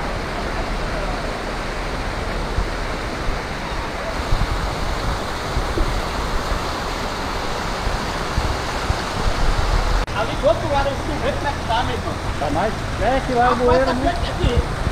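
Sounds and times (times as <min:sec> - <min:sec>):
wind rumbling on microphone: 0:00.0 - 0:13.2, 0:13.9 - 0:14.9
floodwater rushing: 0:00.0 - 0:14.9.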